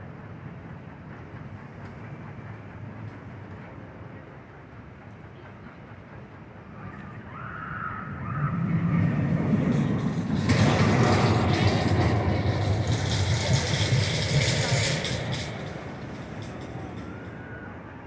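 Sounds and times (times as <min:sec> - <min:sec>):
roller coaster rumbling and clattering: 0:00.0 - 0:18.0.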